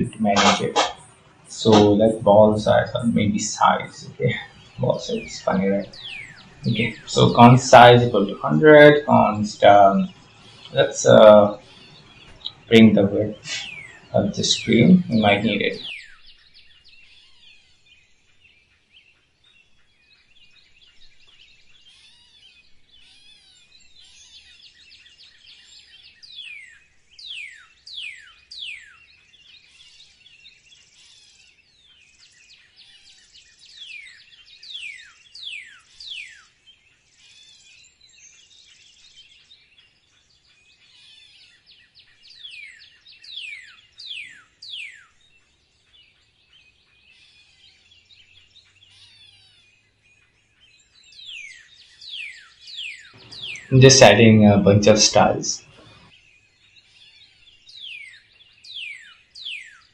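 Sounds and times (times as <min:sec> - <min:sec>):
faint chirping: 0:00.0 - 0:59.9.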